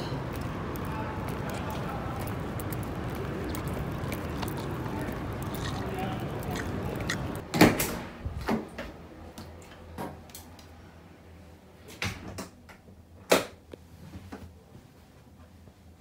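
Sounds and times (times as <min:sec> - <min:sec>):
outside noise: 0:00.0 - 0:13.8.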